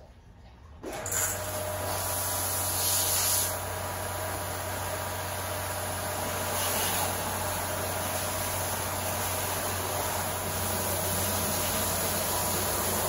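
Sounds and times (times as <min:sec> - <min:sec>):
pressure washer motor hum: 0:00.8 - 0:13.0
water jet hissing: 0:01.5 - 0:13.0.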